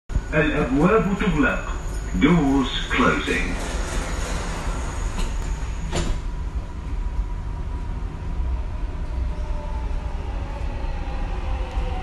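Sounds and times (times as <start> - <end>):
train rumbling: 0.1 - 12.0.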